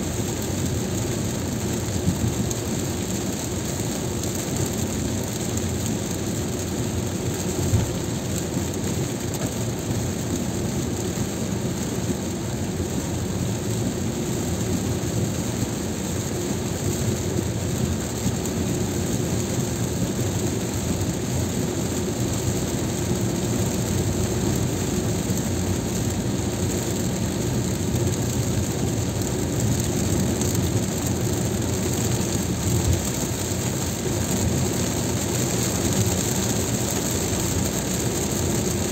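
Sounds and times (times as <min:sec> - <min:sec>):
heavy rain: 0:00.0 - 0:38.9
tyres on wet pavement: 0:00.0 - 0:38.9.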